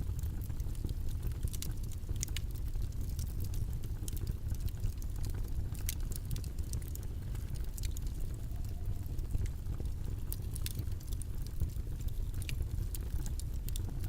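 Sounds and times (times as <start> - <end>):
low background rumble: 0.0 - 14.0
small light clicks and ticks: 0.1 - 14.0.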